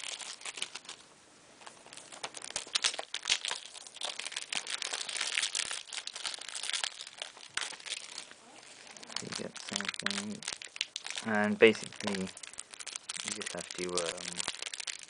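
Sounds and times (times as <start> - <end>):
packaging crinkling and rustling: 0.0 - 1.0, 1.6 - 15.0.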